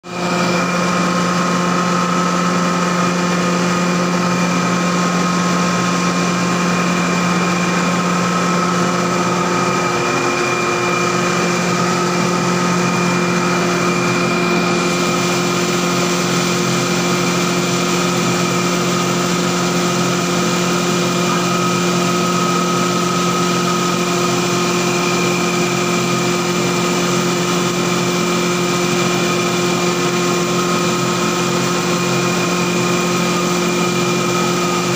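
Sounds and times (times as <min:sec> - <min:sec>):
grinding machine droning: 0:00.1 - 0:34.9.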